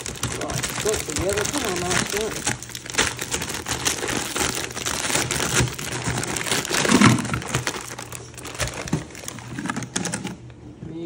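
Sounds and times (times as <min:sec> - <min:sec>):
frozen shrimp clicking into tub: 0:00.0 - 0:10.4
plastic bag crinkling: 0:00.0 - 0:10.5.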